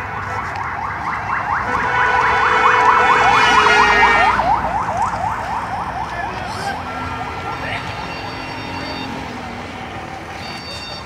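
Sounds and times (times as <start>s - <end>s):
electronic yelp siren: 0.0s - 11.0s.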